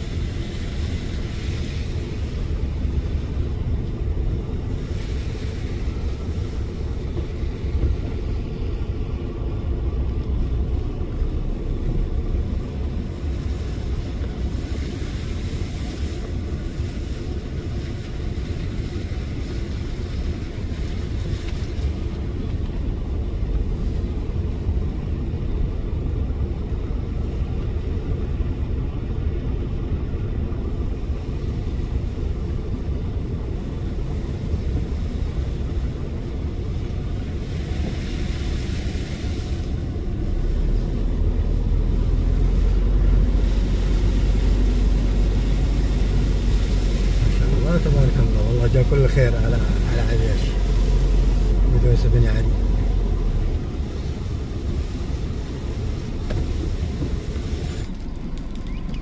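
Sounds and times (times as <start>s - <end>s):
car driving rumble inside cabin: 0.0s - 59.0s.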